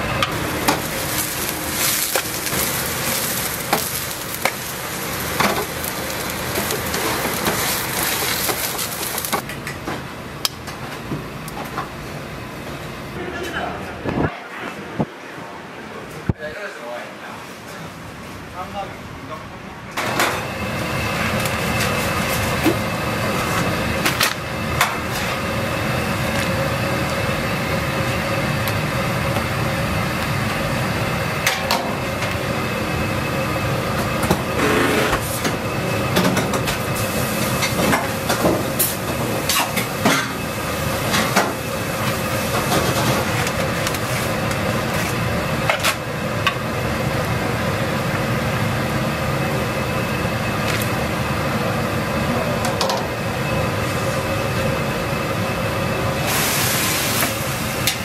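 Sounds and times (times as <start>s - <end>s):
water boiling in a pot: 0.0s - 9.6s, 20.4s - 34.6s, 35.2s - 58.0s.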